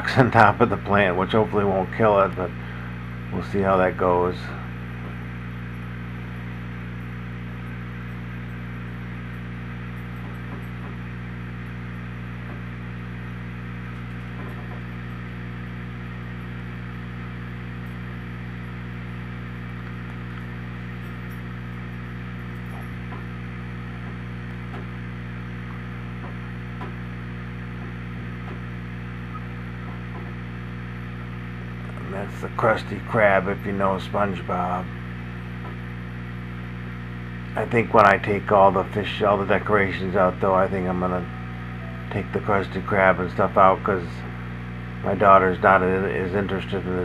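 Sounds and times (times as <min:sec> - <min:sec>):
low hum: 0:00.0 - 0:47.0.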